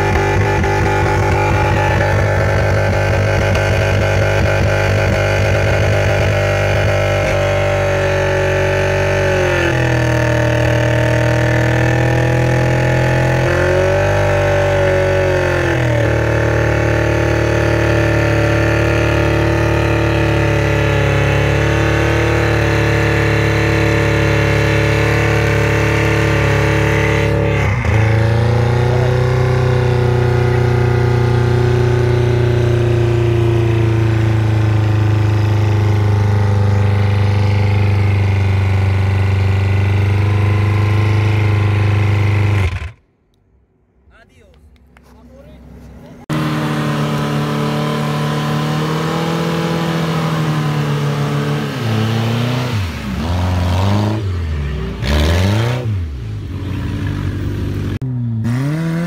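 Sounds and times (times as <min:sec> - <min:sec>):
car engine at full revs: 0:00.0 - 0:43.5, 0:45.7 - 0:59.0.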